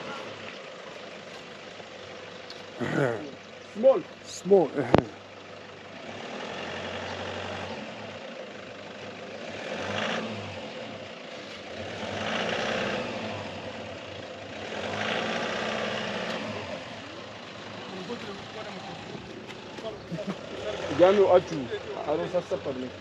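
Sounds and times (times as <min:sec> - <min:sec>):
truck engine revving under load: 0:00.0 - 0:23.0.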